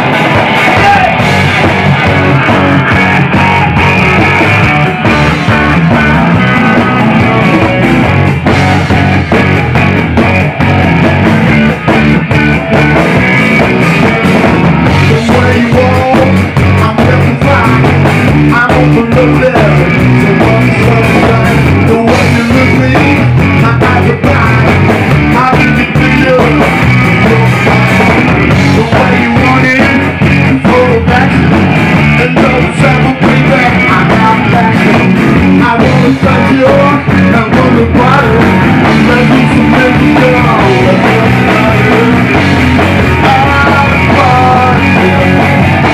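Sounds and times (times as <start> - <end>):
loud rock band music: 0.0 - 45.9.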